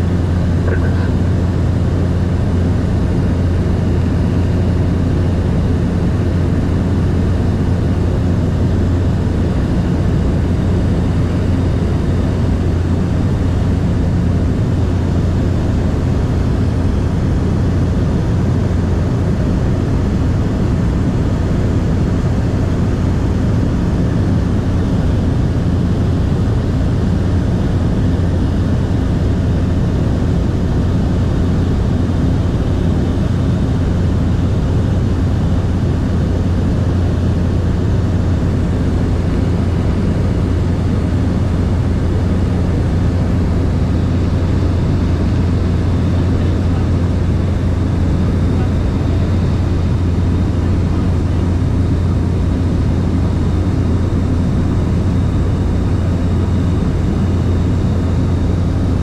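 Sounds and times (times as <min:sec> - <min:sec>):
propeller aircraft engine hum: 0:00.0 - 0:59.0.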